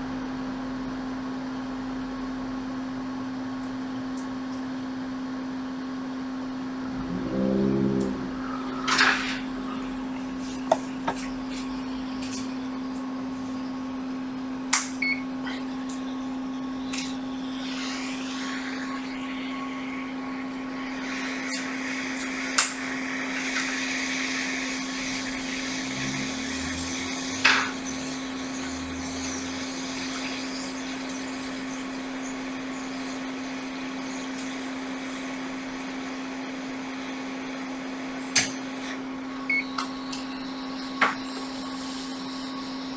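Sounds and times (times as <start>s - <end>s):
electronics equipment humming: 2.5s - 42.9s.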